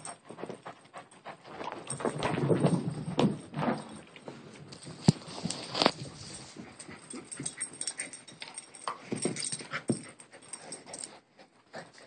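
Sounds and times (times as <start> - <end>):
dog moving on carpet: 0.2 - 11.1.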